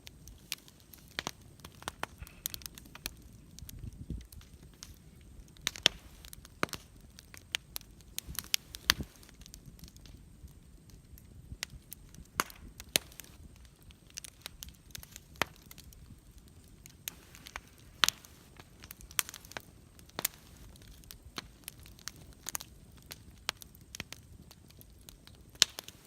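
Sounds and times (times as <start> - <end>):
campfire snaps and pops: 0.0 - 26.0
low rush of flames: 0.0 - 26.0.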